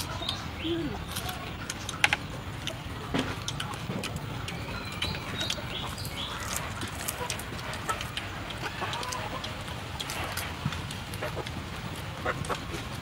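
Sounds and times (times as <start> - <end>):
crunchy food chewing: 0.0 - 13.0.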